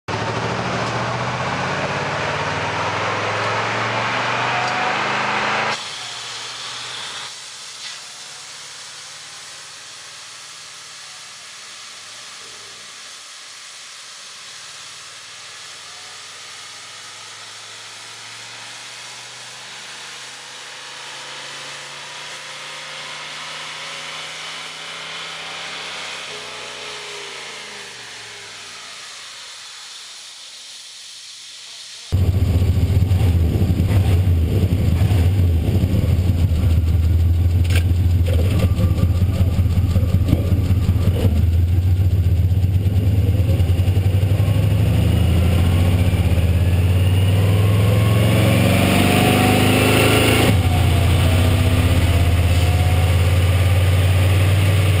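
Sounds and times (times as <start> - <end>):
engine running hard: 0.0 - 30.0, 32.1 - 55.0
tyres spinning dyno rollers: 0.1 - 22.6, 23.6 - 55.0.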